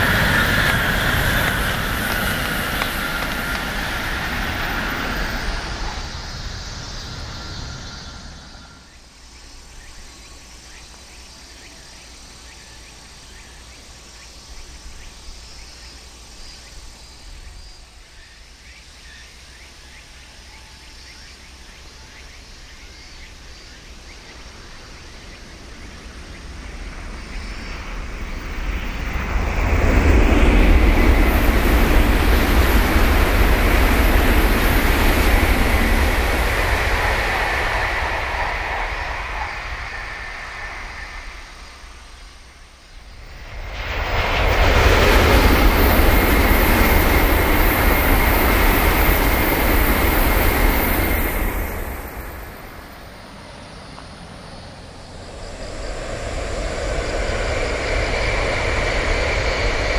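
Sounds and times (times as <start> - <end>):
faint outdoor background: 0.0 - 59.9
train rushing past: 0.0 - 59.9.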